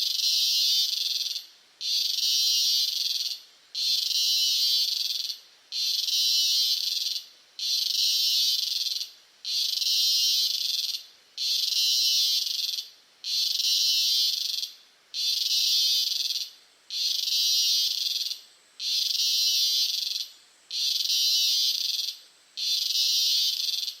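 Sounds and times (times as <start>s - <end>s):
cicada buzzing: 0.0s - 24.0s.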